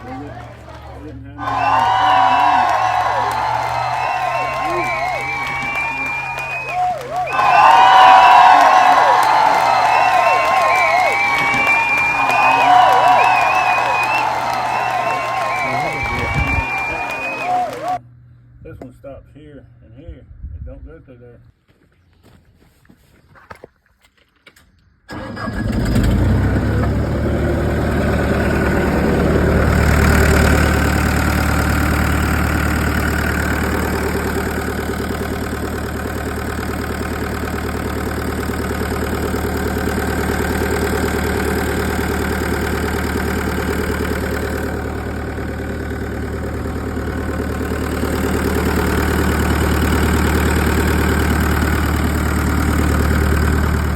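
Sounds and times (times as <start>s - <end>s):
diesel engine idling: 0.0s - 18.0s, 25.1s - 53.9s.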